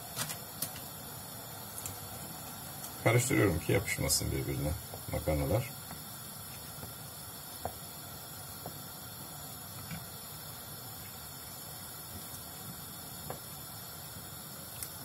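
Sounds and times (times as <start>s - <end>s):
steady faint hiss: 0.0s - 15.0s.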